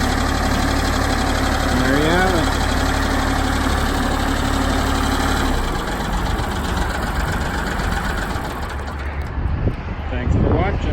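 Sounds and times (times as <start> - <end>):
backhoe engine idling: 0.0 - 9.6.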